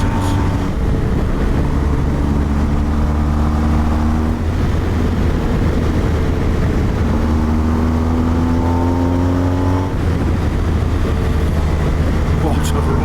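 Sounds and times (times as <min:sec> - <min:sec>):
wind noise on microphone: 0:00.0 - 0:12.5
motorcycle engine accelerating: 0:00.0 - 0:13.0.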